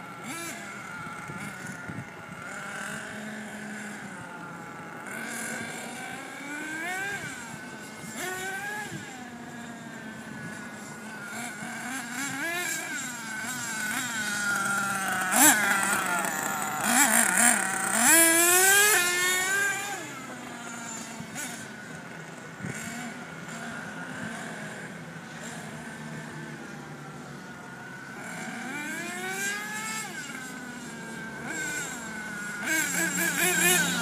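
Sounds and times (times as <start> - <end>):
small two-stroke engine revving: 0.0 - 34.0.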